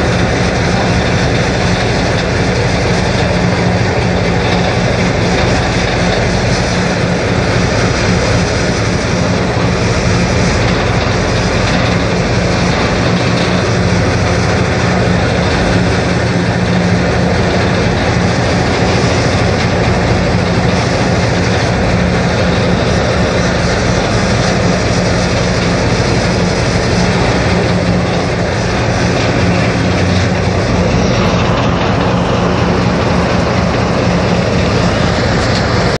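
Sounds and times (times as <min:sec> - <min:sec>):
boat engine humming: 0:00.0 - 0:36.0.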